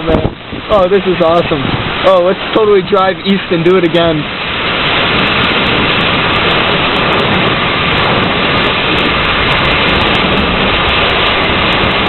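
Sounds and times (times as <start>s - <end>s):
heavy rain on car roof: 0.0s - 12.0s
strong wind: 0.0s - 12.0s.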